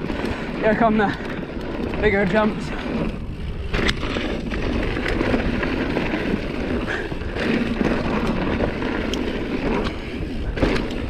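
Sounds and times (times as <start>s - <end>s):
wind and tyre rush: 0.0s - 11.0s.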